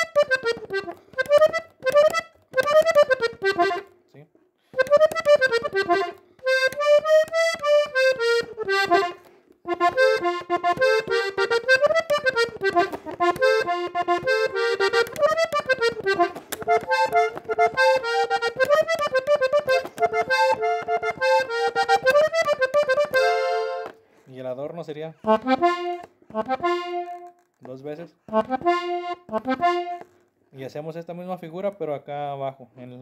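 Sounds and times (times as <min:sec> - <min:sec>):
button accordion melody: 0:00.0 - 0:04.0, 0:04.7 - 0:24.1, 0:25.2 - 0:27.5, 0:28.3 - 0:30.2.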